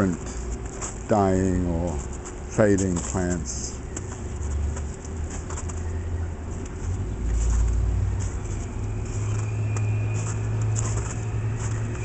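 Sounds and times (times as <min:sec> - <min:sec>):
footsteps crunching in snow: 0:00.0 - 0:12.0
low rumble of street traffic: 0:00.0 - 0:12.0
steady hum: 0:00.0 - 0:12.0.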